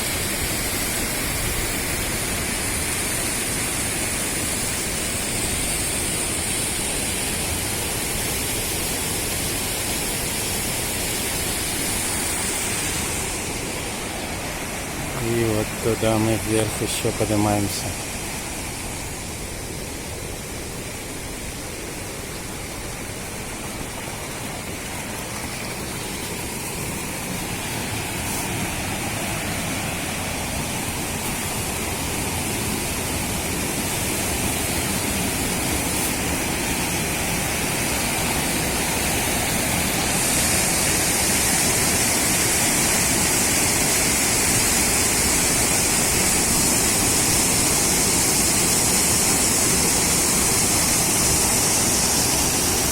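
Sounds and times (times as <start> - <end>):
waterfall rushing water: 0.0 - 52.9.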